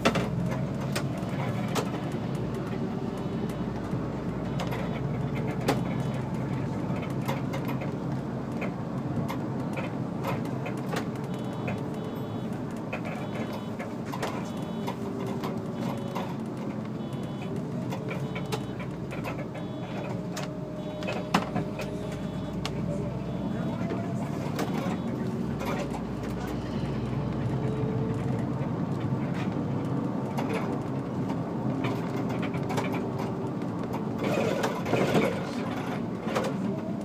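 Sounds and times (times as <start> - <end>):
bus engine and road noise: 0.0 - 37.0.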